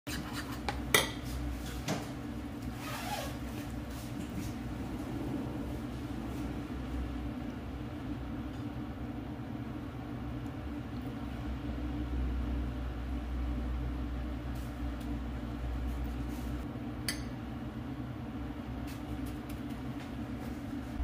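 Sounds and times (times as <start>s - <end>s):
low mechanical hum: 0.1s - 21.0s.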